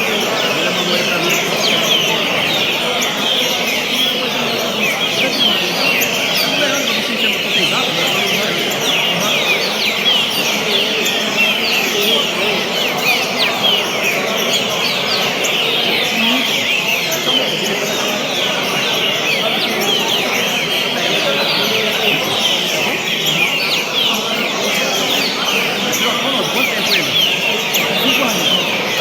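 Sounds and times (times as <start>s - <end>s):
people talking faintly: 0.0s - 29.0s
songbirds chorus: 0.0s - 29.0s.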